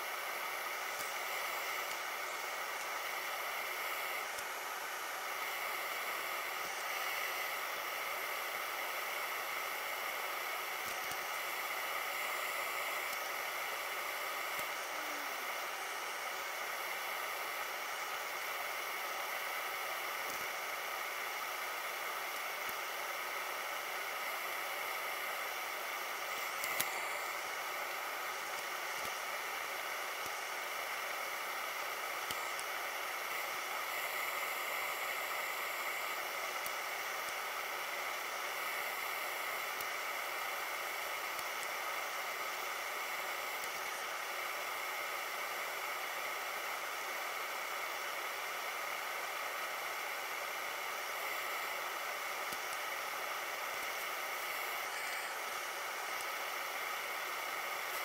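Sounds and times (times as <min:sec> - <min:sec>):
faint steady whine: 0:00.0 - 0:58.0
steady hiss: 0:00.0 - 0:58.0.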